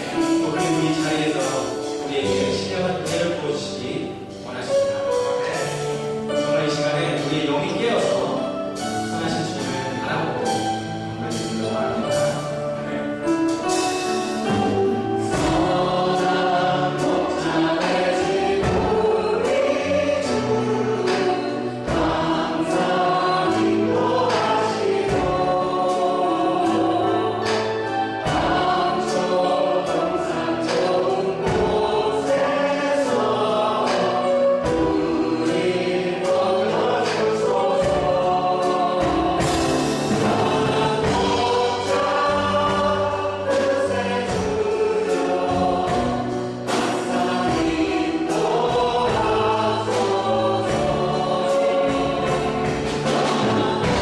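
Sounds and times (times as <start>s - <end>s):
group singing worship song: 0.0s - 54.0s
live band playing: 0.0s - 54.0s.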